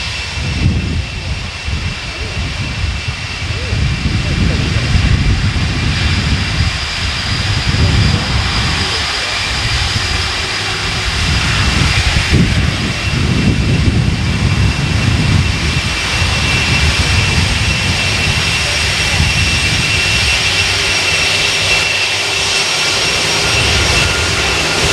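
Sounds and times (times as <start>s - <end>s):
jet engines running: 0.0s - 24.9s.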